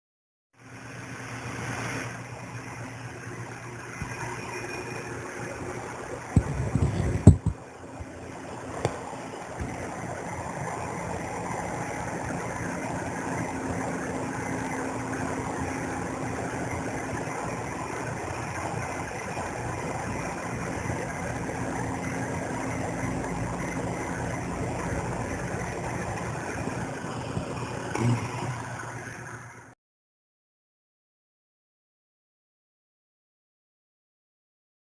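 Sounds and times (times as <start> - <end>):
machine humming: 1.7 - 29.7.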